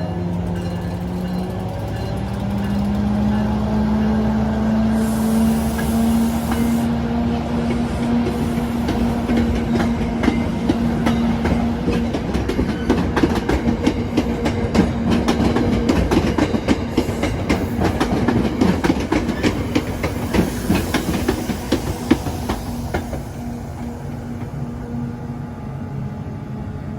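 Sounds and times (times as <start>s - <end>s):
train wheels clicking and clacking: 0.0s - 6.9s, 7.5s - 24.7s.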